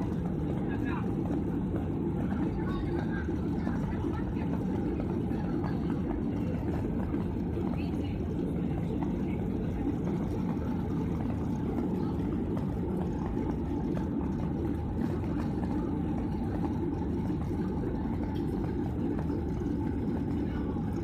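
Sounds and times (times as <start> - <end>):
jet engines droning: 0.0 - 21.0.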